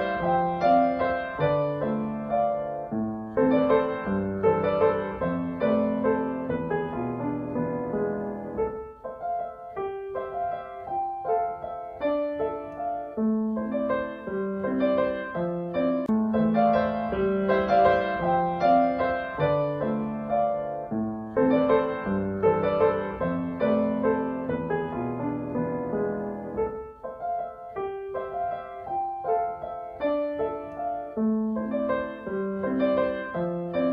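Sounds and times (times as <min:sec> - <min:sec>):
slow piano music: 0:00.0 - 0:33.9.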